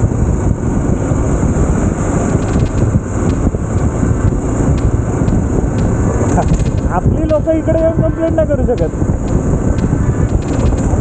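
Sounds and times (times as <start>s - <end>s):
motorcycle engine: 0.0s - 11.0s
wind rushing on microphone: 0.0s - 11.0s.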